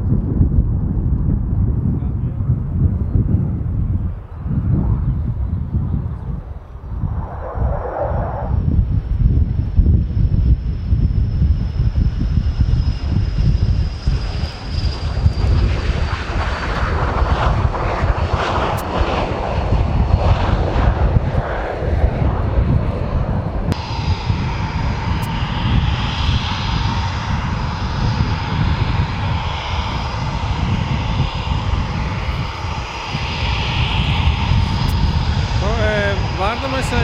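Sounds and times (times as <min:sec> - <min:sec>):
jet engines roaring on runway: 0:00.0 - 0:37.0
jet engines whining steadily: 0:00.0 - 0:37.0.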